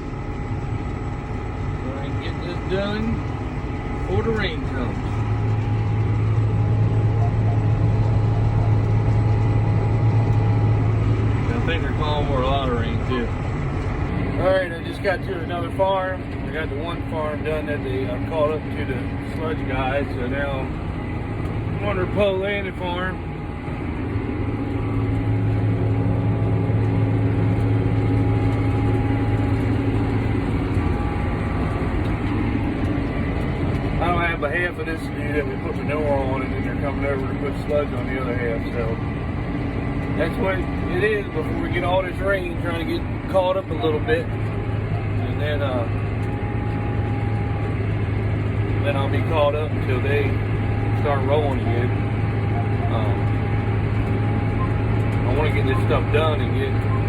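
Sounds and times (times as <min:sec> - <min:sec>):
faint steady whine: 0:00.0 - 0:57.0
tractor engine droning: 0:00.0 - 0:57.0.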